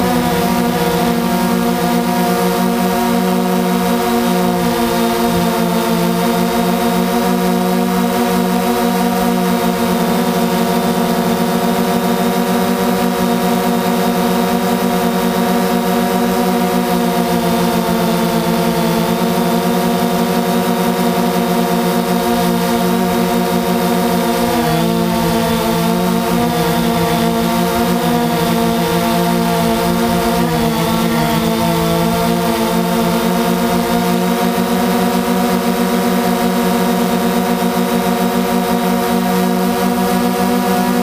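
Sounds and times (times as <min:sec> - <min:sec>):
quadcopter propellers humming: 0:00.0 - 0:41.0.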